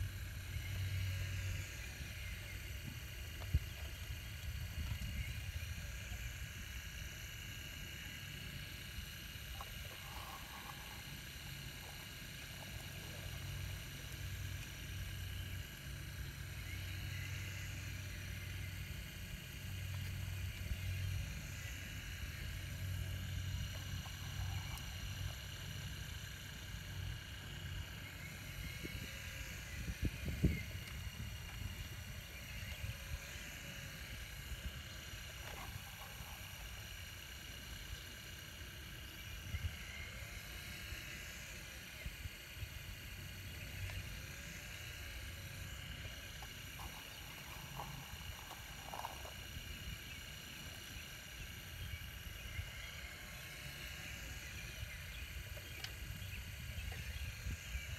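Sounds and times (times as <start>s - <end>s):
hydraulic pump whine: 0.0s - 57.9s.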